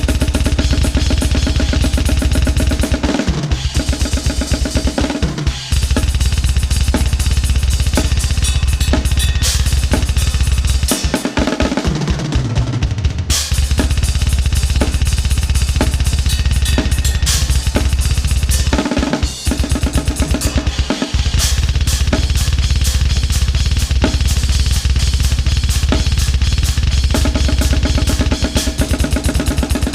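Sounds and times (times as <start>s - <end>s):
metal drum blast beats: 0.0s - 29.9s
tom drum fill: 0.0s - 29.9s.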